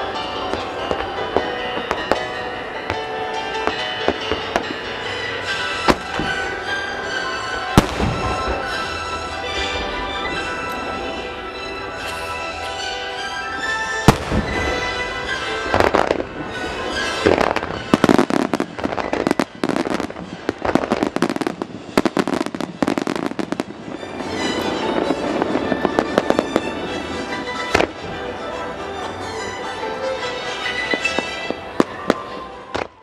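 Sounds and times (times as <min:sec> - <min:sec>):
fireworks crackling: 0:00.0 - 0:33.0
music: 0:00.0 - 0:33.0
fireworks shells bursting: 0:00.5 - 0:28.0.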